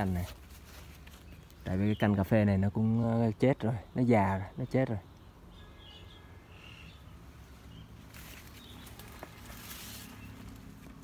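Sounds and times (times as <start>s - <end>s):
bird chirps: 0.8s - 10.7s.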